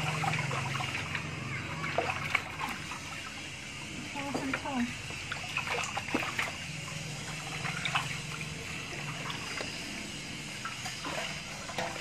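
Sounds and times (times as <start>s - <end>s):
small splashes: 0.0s - 12.0s
water trickling and dripping: 0.0s - 12.0s.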